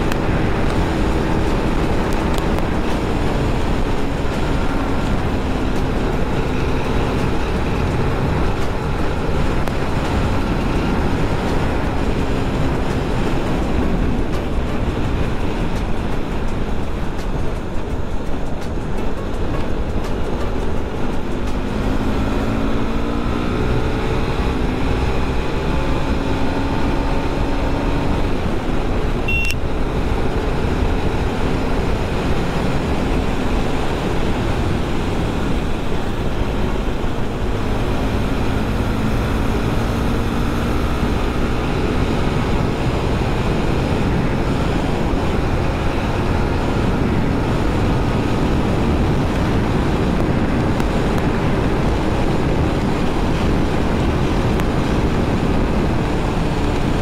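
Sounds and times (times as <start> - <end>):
motorcycle engine revving: 0.0 - 17.8, 19.4 - 57.0
wind rushing over microphone: 0.0 - 57.0.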